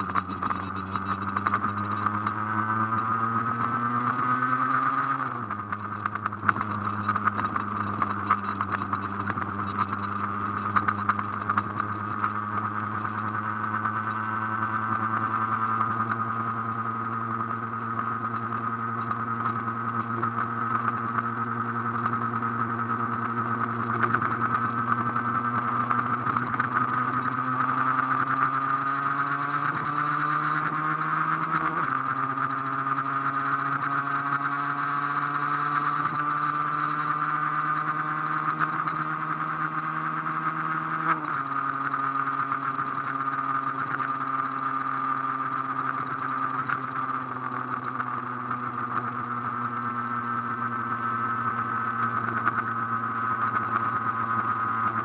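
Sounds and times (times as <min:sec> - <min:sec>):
two-stroke engine at high revs: 0:00.0 - 0:55.0.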